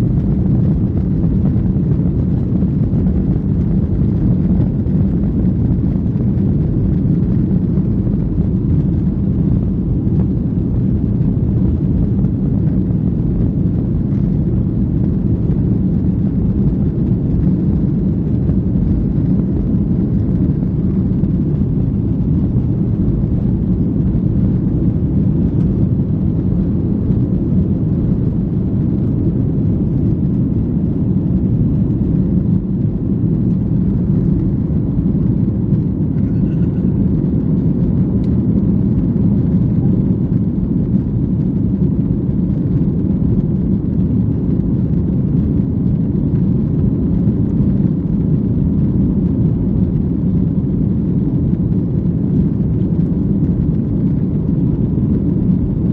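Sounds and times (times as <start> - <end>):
jet engine cabin rumble: 0.0 - 55.9.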